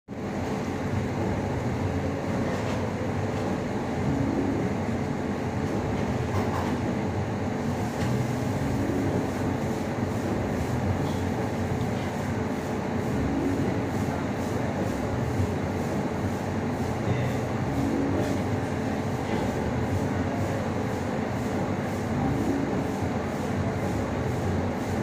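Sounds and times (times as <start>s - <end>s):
low mechanical rumble: 0.1s - 20.4s
faint constant hum: 0.1s - 25.0s.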